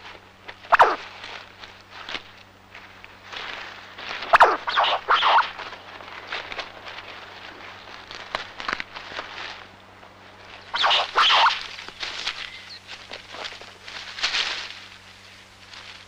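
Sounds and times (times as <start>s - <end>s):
leaves and twigs rustling: 0.0s - 16.0s
low steady hum: 0.0s - 16.0s
twigs snapping: 0.5s - 9.8s, 10.4s - 15.0s.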